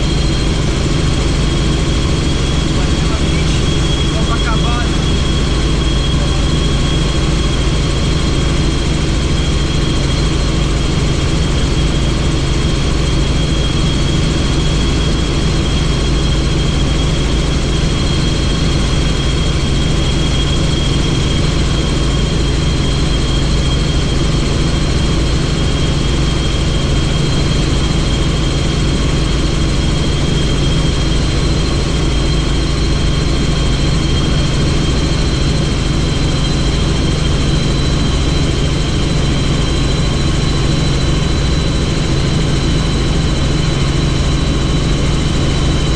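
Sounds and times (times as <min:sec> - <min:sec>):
helicopter engine and rotor noise: 0:00.0 - 0:45.9.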